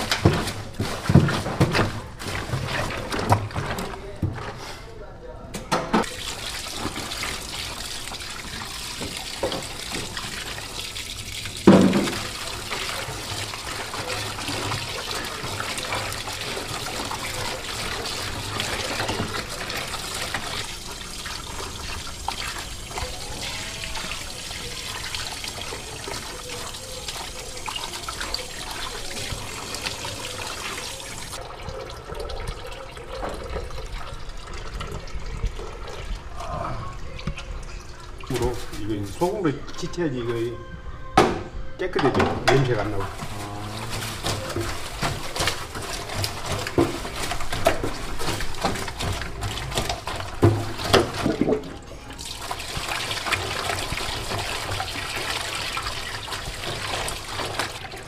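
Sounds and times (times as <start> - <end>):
wet sloshing of offal being washed: 0.0 - 4.1, 6.0 - 39.5, 42.7 - 58.0
running water: 6.0 - 40.5, 42.1 - 58.0.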